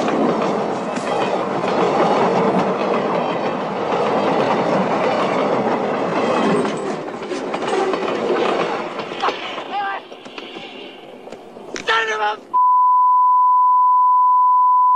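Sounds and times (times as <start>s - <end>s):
train wheels rolling on track: 0.0s - 12.2s.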